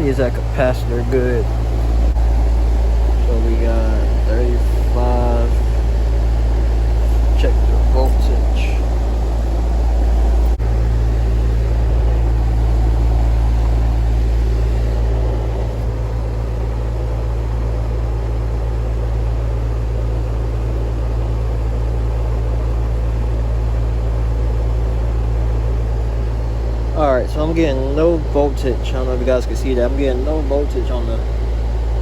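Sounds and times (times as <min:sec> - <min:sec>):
air conditioner humming: 0:00.0 - 0:32.0.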